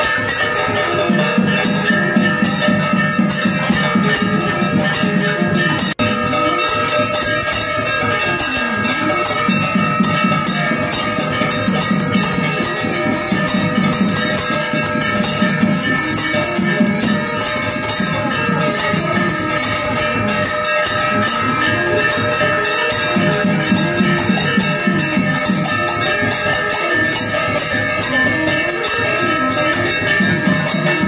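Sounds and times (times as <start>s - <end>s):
temple bells ringing: 0.0s - 31.0s.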